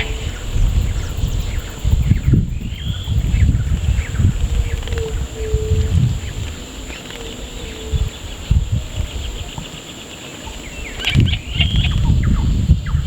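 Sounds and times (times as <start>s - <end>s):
bird chirps and calls: 0.0s - 13.0s
high insect drone: 0.0s - 13.0s.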